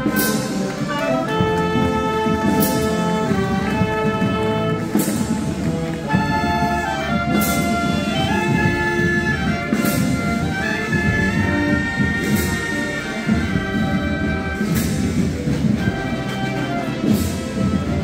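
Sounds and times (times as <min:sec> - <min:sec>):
brass band playing slow march: 0:00.0 - 0:18.0.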